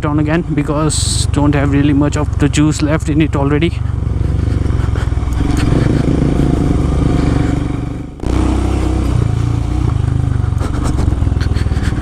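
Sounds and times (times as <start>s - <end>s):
motorcycle engine running: 0.9s - 12.0s.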